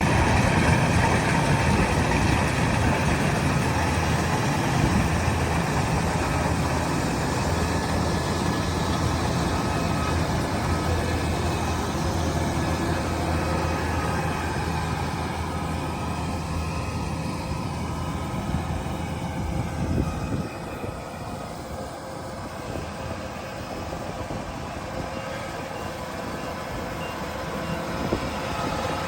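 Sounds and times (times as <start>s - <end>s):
combine harvester droning: 0.0s - 29.0s.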